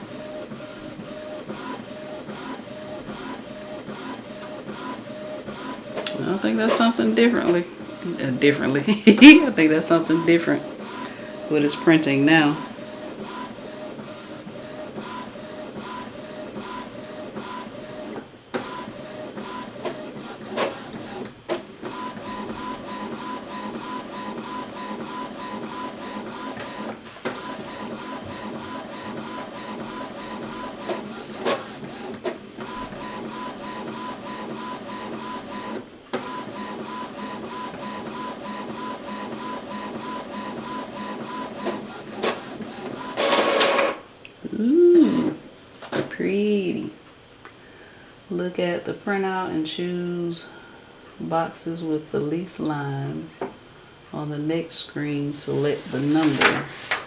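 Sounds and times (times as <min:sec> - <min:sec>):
inkjet printer carriage whirring: 0:00.0 - 0:46.1, 0:55.4 - 0:57.0
printer whine: 0:00.0 - 0:46.1, 0:55.4 - 0:57.0.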